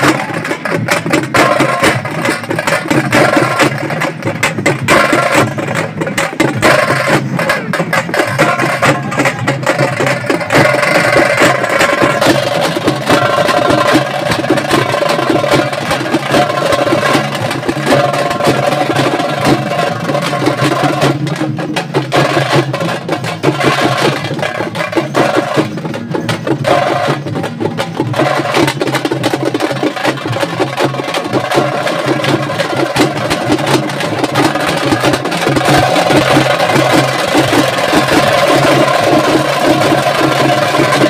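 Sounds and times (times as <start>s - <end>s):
barrel drums beaten with sticks: 0.0s - 41.0s.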